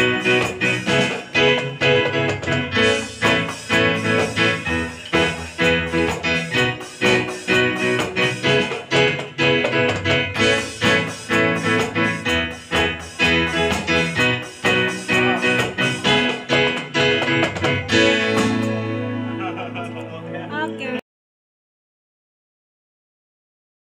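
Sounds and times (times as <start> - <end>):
guitar-led song: 0.0 - 21.0.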